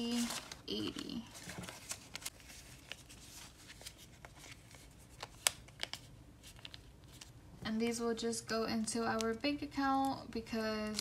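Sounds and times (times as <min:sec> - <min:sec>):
banknotes rustling and crinkling: 0:00.0 - 0:07.4, 0:08.8 - 0:11.0.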